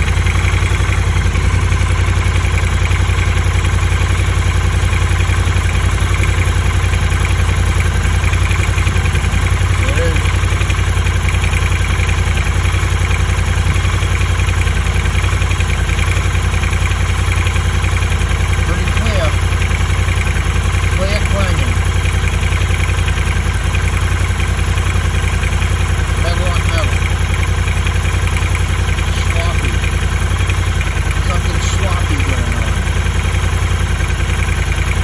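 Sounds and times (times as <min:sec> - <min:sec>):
motorcycle engine idling with knocking: 0:00.0 - 0:35.0.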